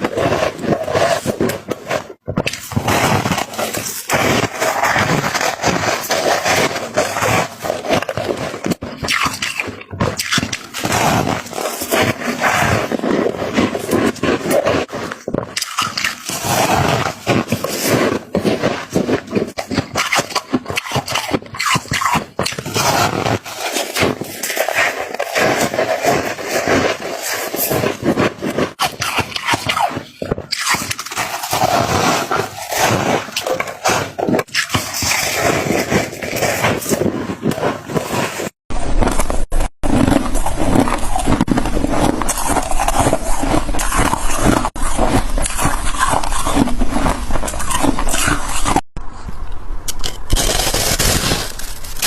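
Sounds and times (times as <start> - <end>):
chewing crunchy frost: 0.0 - 48.9, 50.0 - 52.0.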